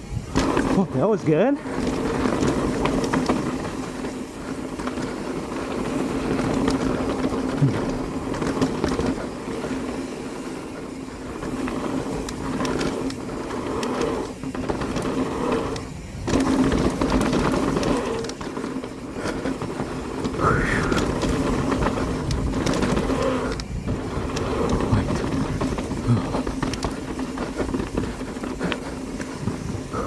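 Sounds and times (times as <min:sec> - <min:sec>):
bicycle freehub buzzing: 0:00.0 - 0:30.0
bike clicks and rattles: 0:00.0 - 0:30.0
tyre and wind rumble: 0:00.0 - 0:30.0.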